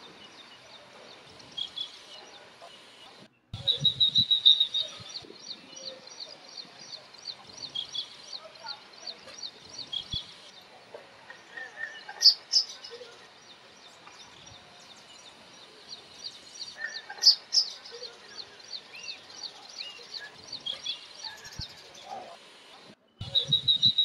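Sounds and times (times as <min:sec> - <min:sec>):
sharp bird calls: 0:00.0 - 0:24.0
small birds chirping: 0:00.0 - 0:24.0.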